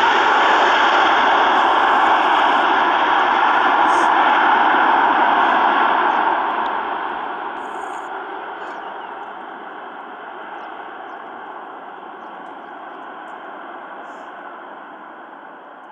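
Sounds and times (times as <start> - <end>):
jet engine roar: 0.0 - 15.9.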